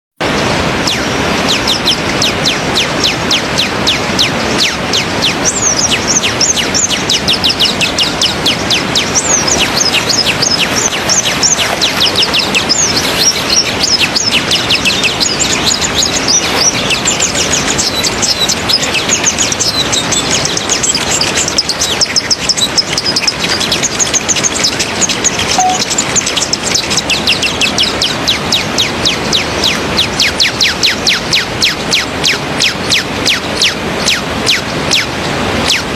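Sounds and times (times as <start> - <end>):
small birds chirping: 0.2 - 35.9.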